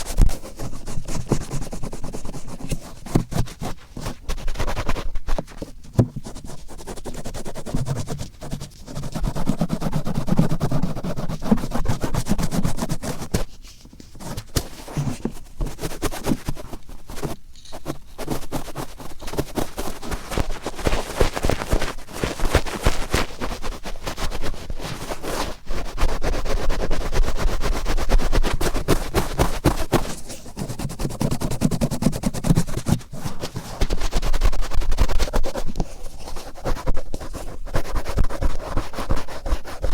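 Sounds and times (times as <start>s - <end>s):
cotton swab scratching in ear: 0.0s - 5.7s, 6.3s - 39.9s.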